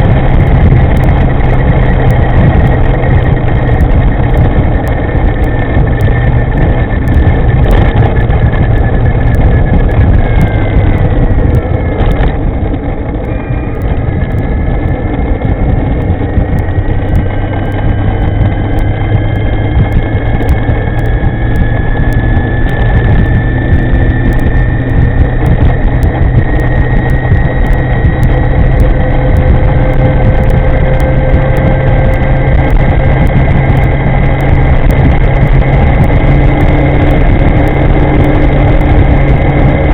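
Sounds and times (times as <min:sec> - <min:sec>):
electric motor whine: 0:00.0 - 0:39.9
road noise: 0:00.0 - 0:39.9
wind rush on microphone: 0:00.0 - 0:39.9.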